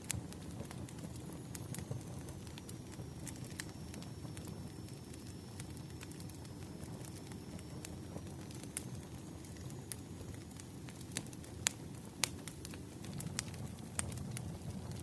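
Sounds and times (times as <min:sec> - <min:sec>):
crackles and pops of fire: 0:00.0 - 0:15.0
low rumble of flame: 0:00.0 - 0:15.0.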